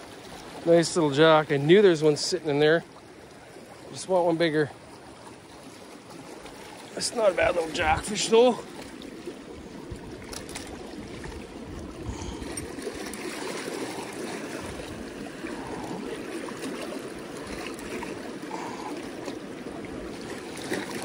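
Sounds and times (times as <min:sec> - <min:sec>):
river water trickling over rocks: 0:00.0 - 0:21.0.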